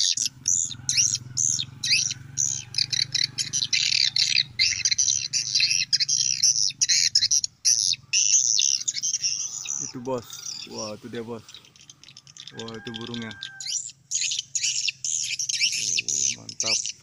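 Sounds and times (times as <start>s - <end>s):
bird chirps from phone speaker: 0.0s - 17.0s.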